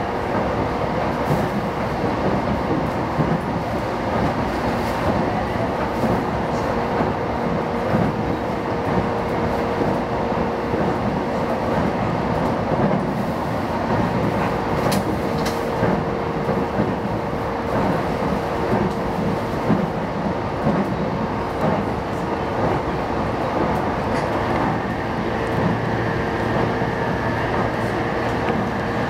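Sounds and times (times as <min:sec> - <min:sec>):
train hum: 0:00.0 - 0:29.0
train wheels rumbling on rail: 0:00.0 - 0:29.0.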